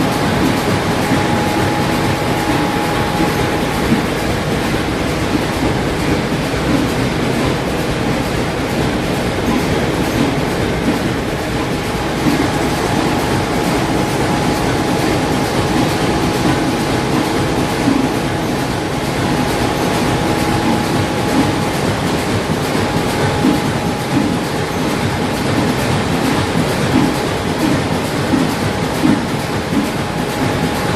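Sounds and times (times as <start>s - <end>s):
thin steady whine: 0.0s - 6.3s, 8.1s - 27.2s
stationary engines clattering: 0.0s - 30.9s.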